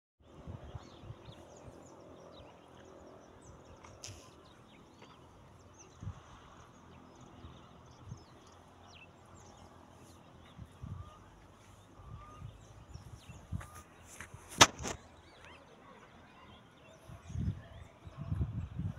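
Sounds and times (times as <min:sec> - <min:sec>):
small birds chirping: 0:00.2 - 0:18.9.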